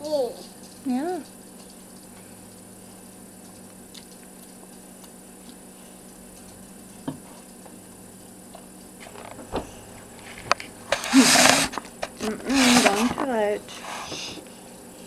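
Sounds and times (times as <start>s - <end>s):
steady low hum: 0.0s - 15.0s
toddler chewing and handling food: 0.0s - 15.0s.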